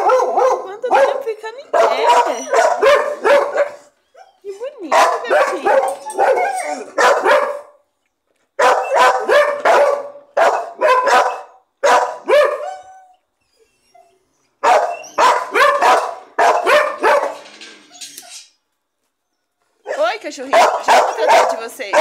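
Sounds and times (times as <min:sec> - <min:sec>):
dogs barking and yipping: 0:00.0 - 0:07.9, 0:08.6 - 0:18.5, 0:19.6 - 0:22.0.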